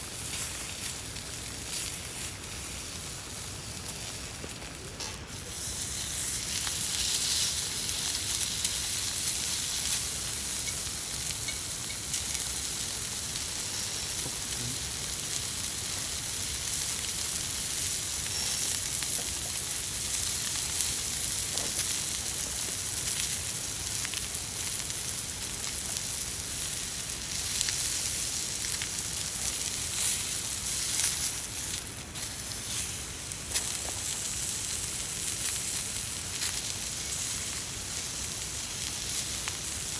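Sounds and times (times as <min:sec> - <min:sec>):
meat sizzling on a grill: 0:00.0 - 0:39.9
wood fire crackling: 0:00.0 - 0:39.9.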